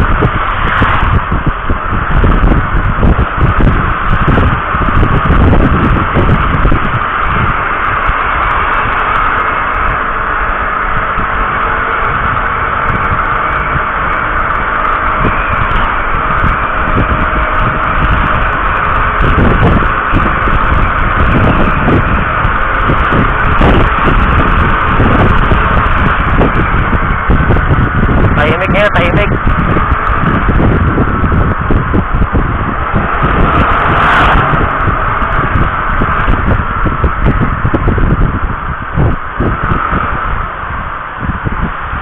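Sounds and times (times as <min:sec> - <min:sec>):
gusty low thumps: 0:00.0 - 0:42.0
vehicle running: 0:00.0 - 0:42.0
wind noise on microphone: 0:00.0 - 0:42.0.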